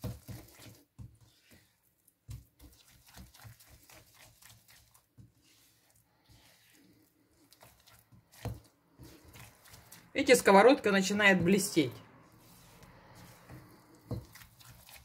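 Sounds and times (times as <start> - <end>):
spatula stirring porridge in pan: 0.0 - 10.6, 11.2 - 15.0.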